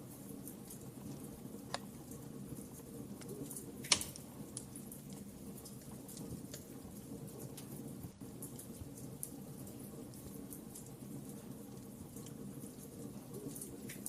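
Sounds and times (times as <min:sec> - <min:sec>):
fire popping: 0:00.0 - 0:14.0
wood fire crackling: 0:00.0 - 0:14.0.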